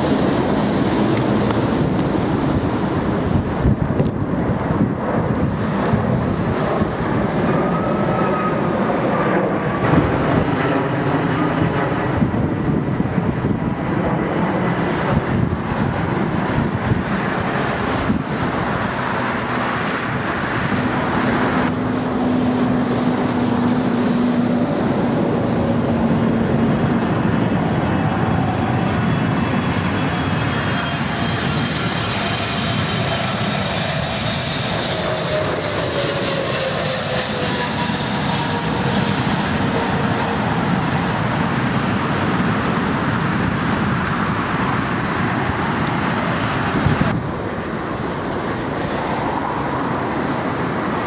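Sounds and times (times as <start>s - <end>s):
jet airliner engines: 0.0s - 51.0s
wind buffeting microphone: 0.0s - 51.0s.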